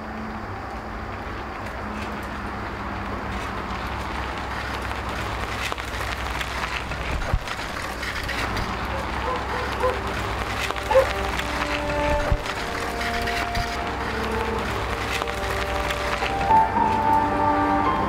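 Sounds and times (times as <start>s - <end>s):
low outdoor rumble: 0.0s - 18.0s
scattered clicks: 0.2s - 17.3s.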